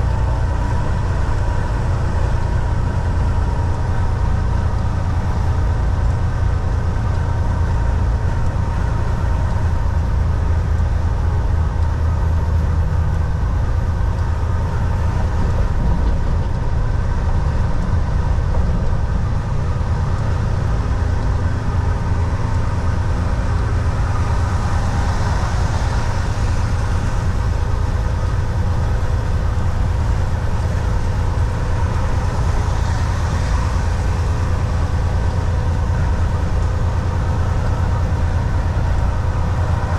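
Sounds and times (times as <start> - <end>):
road noise: 0.0 - 39.9
truck diesel engine rumbling: 0.0 - 39.9.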